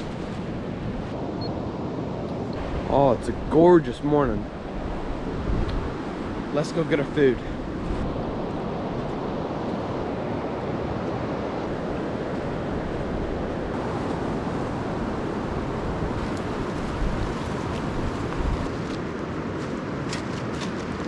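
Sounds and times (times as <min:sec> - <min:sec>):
river rushing: 0:00.0 - 0:21.0
wind rumble on microphone: 0:00.0 - 0:21.0.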